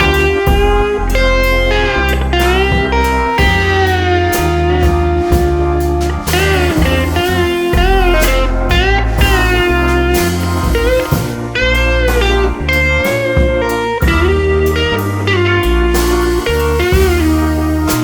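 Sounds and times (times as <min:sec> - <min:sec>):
electronic music with heavy bass: 0:00.0 - 0:18.0.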